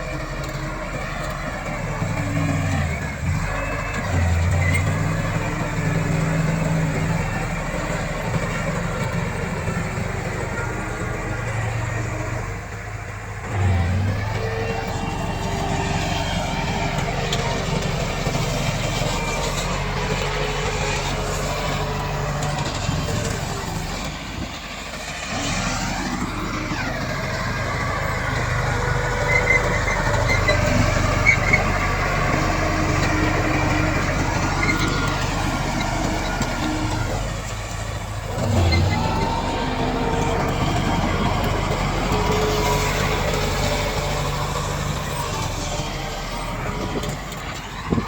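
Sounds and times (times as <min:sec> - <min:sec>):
bulldozer diesel engine running: 0:00.0 - 0:48.0.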